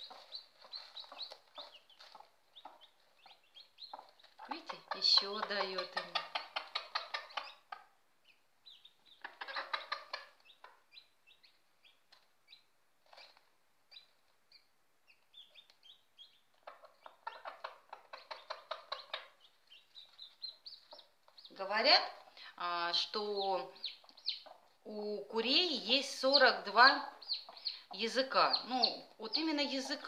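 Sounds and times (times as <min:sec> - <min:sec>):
hen clucking softly: 0:00.0 - 0:14.6, 0:15.3 - 0:21.5, 0:26.4 - 0:30.0
chicks peeping: 0:00.0 - 0:30.0.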